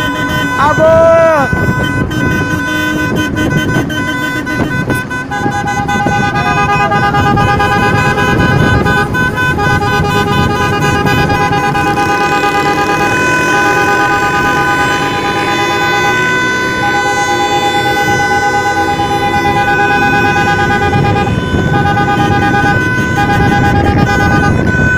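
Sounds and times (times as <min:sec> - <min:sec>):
engine and road noise: 0:00.0 - 0:24.9.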